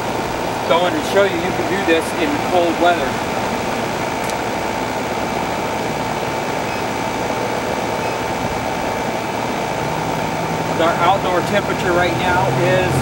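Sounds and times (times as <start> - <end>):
air conditioning unit humming: 0.0 - 13.0.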